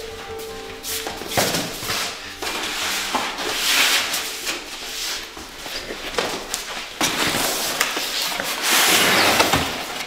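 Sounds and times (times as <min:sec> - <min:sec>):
cardboard scraping and rustling: 0:01.3 - 0:10.0.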